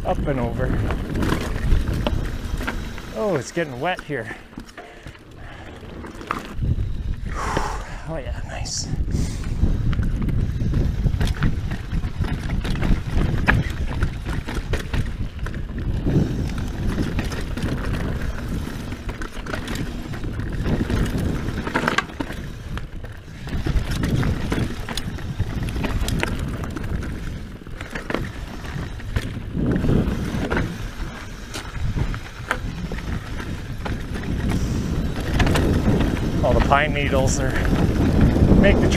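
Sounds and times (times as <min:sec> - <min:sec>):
bike clicks and clatters: 0:00.0 - 0:08.0, 0:09.0 - 0:38.9
bike tyres rolling over dirt: 0:00.0 - 0:38.9.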